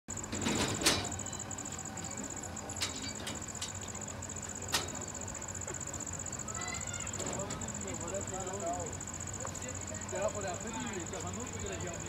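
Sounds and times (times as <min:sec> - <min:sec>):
insects chirring: 0:00.1 - 0:12.0.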